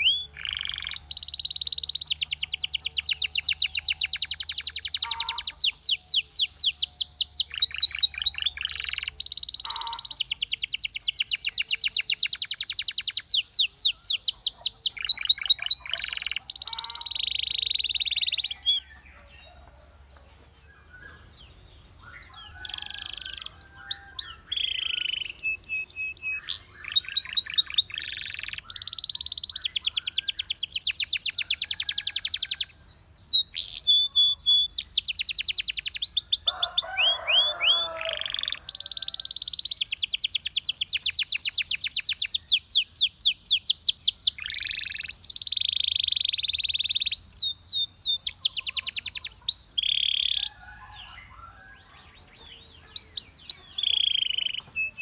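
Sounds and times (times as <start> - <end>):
canary singing trills: 0.0 - 19.9, 20.6 - 55.0.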